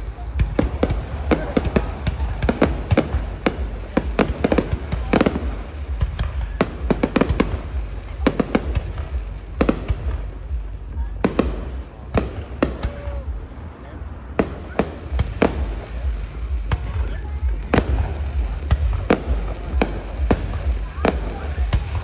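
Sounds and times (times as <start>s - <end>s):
fireworks bangs and crackles: 0.0s - 22.0s
steady low rumble: 0.0s - 22.0s.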